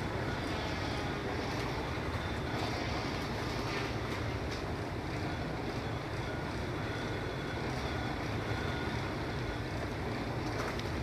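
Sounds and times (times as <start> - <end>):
faint thin whine: 0.0 - 11.0
ship machinery rumble and hum: 0.0 - 11.0.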